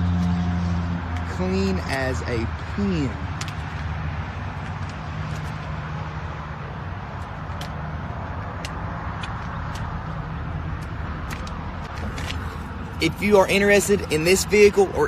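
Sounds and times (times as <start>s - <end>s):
motor vehicles rumbling: 0.0s - 15.0s
street noise: 0.0s - 15.0s.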